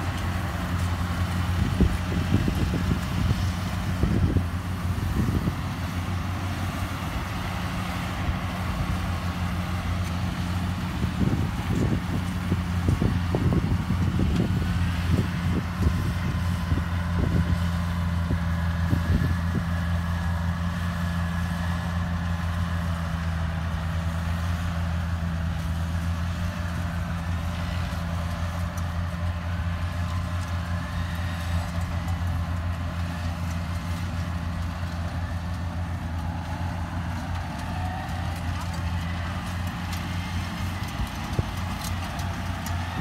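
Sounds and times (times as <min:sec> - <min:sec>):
diesel engines droning: 0:00.0 - 0:43.0.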